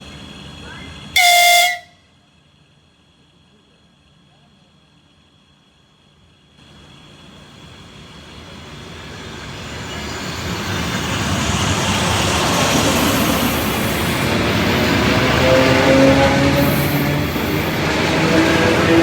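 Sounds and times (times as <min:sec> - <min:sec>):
electric train pulling away: 0:00.0 - 0:19.0.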